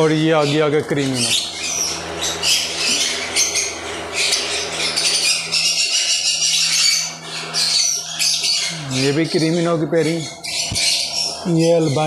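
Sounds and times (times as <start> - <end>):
lovebirds chattering and screeching: 0.0 - 12.0.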